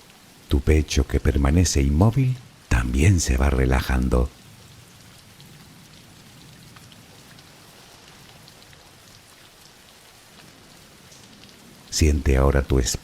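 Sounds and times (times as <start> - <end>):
raindrop ticks: 0.0 - 13.0
soft steady rain: 0.0 - 13.0.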